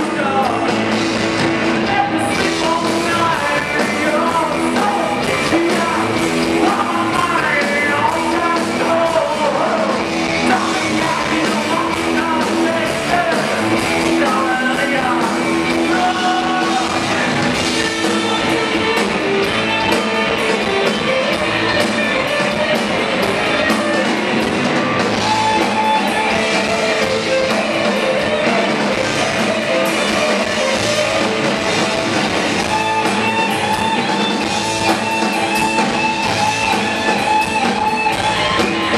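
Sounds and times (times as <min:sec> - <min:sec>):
drums: 0:00.0 - 0:38.9
electric guitars: 0:00.0 - 0:38.9
man singing: 0:00.0 - 0:38.9
rock band playing live: 0:00.0 - 0:38.9.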